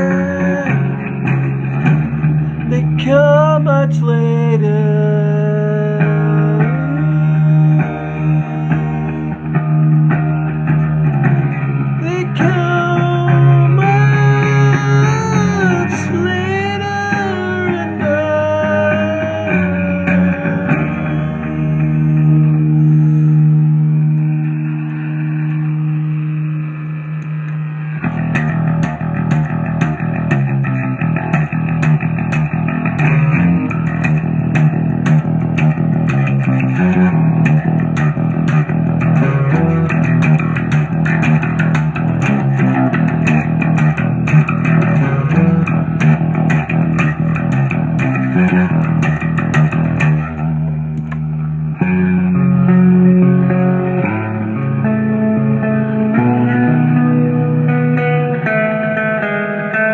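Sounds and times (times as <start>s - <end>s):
guitar and bass music: 0.0s - 59.9s.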